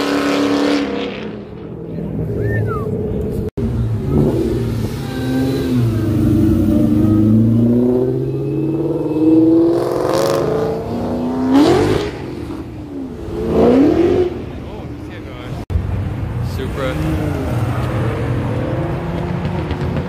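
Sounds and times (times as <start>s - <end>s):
car engine revving: 3.0s - 15.6s, 16.4s - 20.0s.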